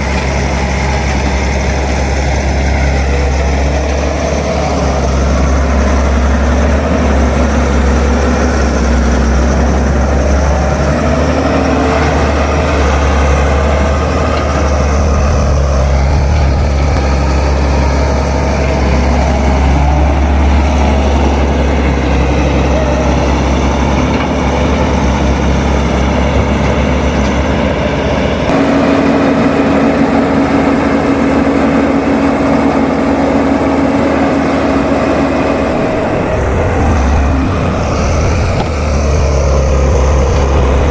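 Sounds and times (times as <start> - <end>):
heavy diesel engine running: 0.0 - 40.9
tonal drone: 0.0 - 40.9.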